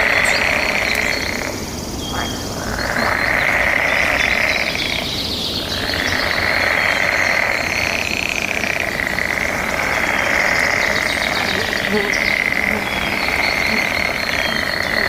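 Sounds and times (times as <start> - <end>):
frogs trilling: 0.0 - 15.0.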